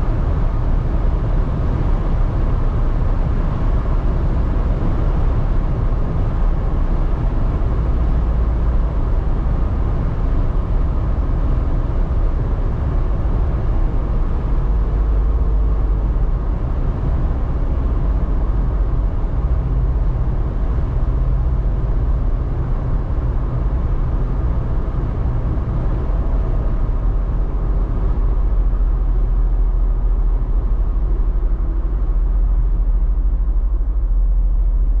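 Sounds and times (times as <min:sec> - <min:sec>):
engine low rumble: 0:00.0 - 0:35.0.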